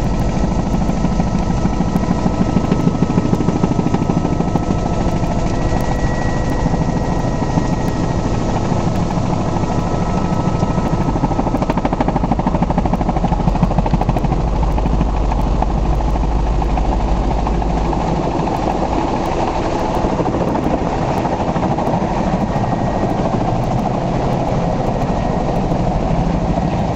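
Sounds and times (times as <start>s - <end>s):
helicopter engine drone: 0.0s - 26.9s
helicopter rotor chop: 0.0s - 26.9s.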